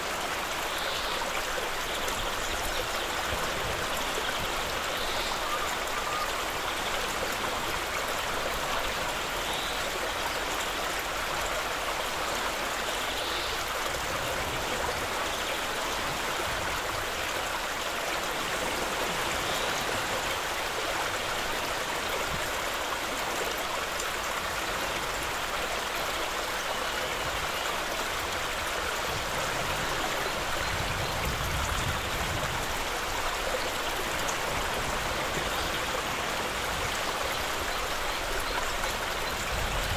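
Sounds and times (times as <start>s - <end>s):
stream running over gravel: 0.0s - 39.9s.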